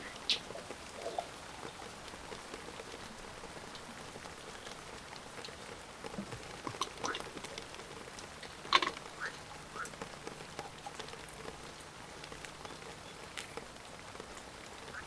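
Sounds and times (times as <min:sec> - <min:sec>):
close raindrops landing: 0:00.0 - 0:15.0
rain falling: 0:00.0 - 0:15.0.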